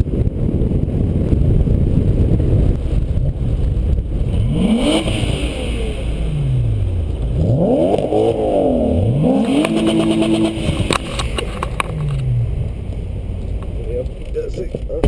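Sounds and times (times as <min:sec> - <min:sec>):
car engine revving: 0:00.0 - 0:15.0
wind rumble on microphone: 0:00.0 - 0:15.0.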